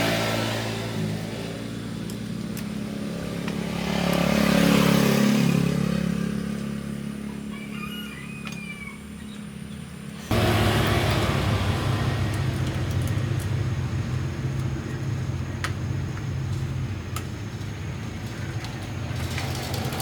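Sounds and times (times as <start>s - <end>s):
motorcycle engine running: 0.0s - 7.5s, 9.6s - 20.0s.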